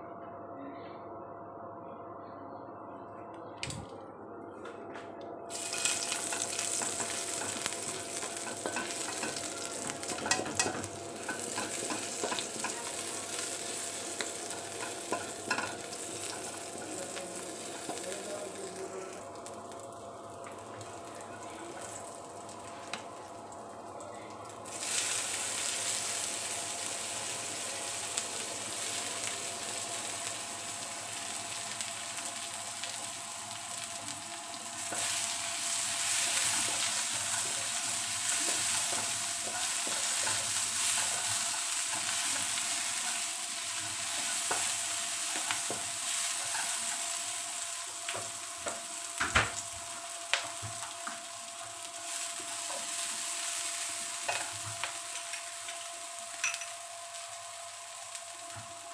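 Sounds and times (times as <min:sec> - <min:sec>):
onion sizzling in hot oil: 0:05.5 - 0:58.9.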